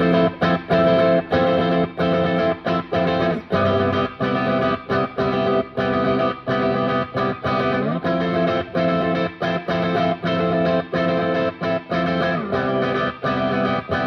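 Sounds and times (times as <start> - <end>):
electric guitar chords: 0.0 - 14.0
guitar slide: 0.0 - 14.0.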